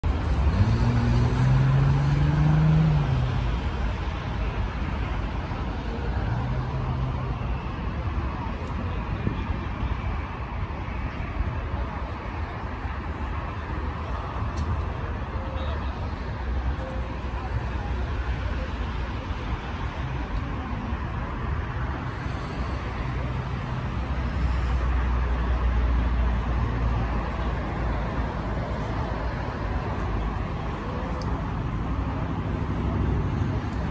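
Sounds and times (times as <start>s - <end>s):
traffic noise: 0.0s - 33.9s
vehicle engine hum: 0.0s - 33.9s.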